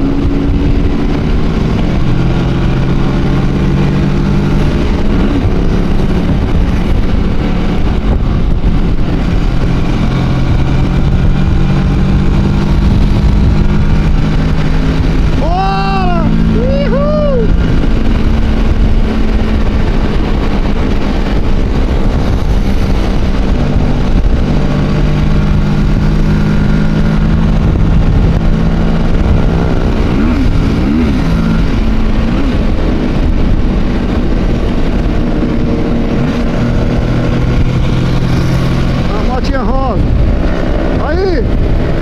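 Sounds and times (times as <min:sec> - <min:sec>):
motorcycle engine cruising: 0:00.0 - 0:42.0
wind and road noise: 0:00.0 - 0:42.0.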